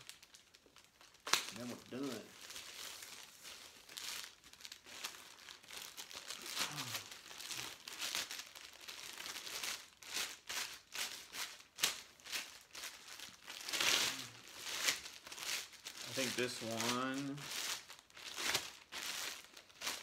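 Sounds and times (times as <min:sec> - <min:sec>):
plastic wrap crinkling: 0:00.0 - 0:20.0.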